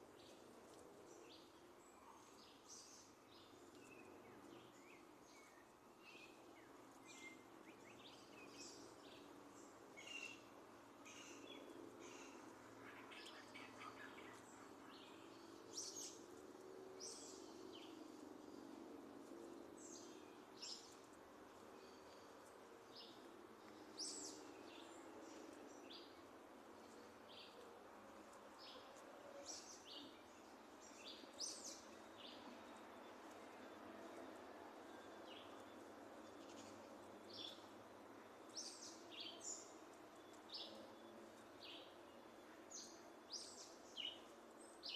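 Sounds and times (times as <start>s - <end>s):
faint background hum: 0.0s - 44.9s
small birds chirping: 0.1s - 44.9s.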